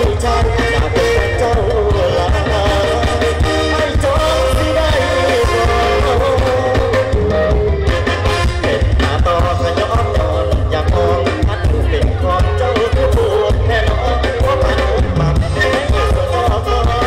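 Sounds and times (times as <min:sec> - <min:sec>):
heavy bass beat: 0:00.0 - 0:17.0
live band playing: 0:00.0 - 0:17.0
person singing: 0:00.0 - 0:17.0.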